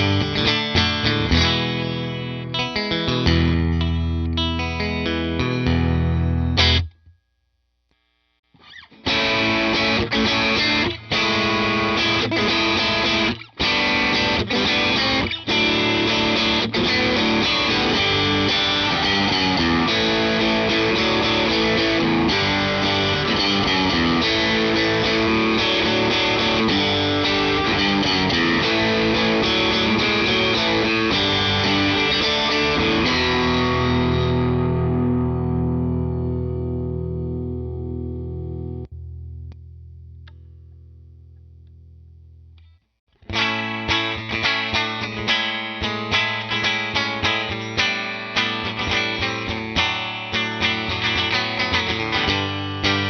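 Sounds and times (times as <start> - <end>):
solo electric guitar: 0.0 - 7.0, 8.6 - 53.0.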